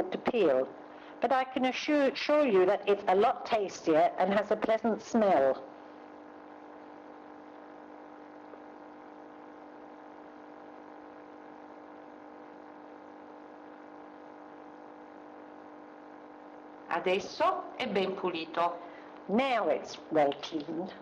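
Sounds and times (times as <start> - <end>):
buzzy electrical hum: 0.0 - 21.0.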